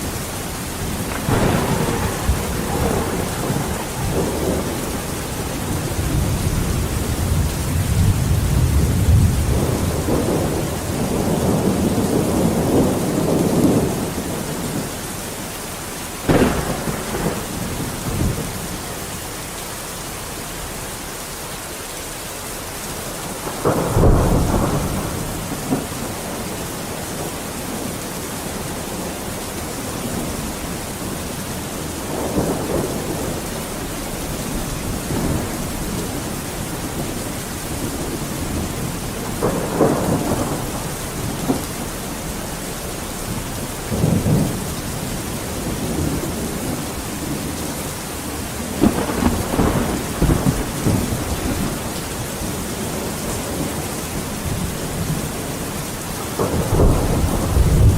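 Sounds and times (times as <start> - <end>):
thunder rumbling: 0.0 - 15.1, 16.1 - 19.6, 23.0 - 57.9
heavy rain: 0.0 - 57.9.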